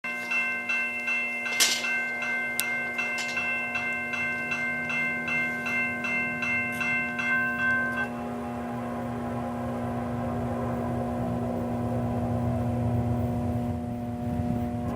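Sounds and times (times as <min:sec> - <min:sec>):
locomotive bell ringing: 0:00.0 - 0:14.9.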